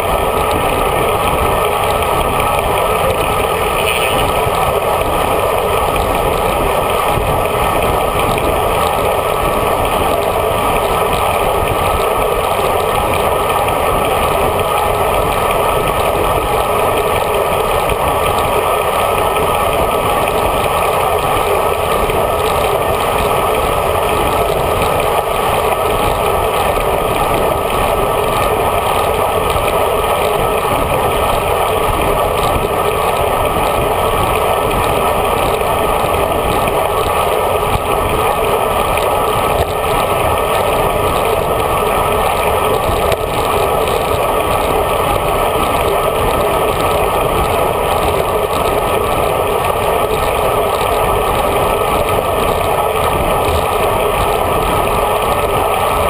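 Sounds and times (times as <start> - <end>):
road noise from bicycle: 0.0 - 56.0.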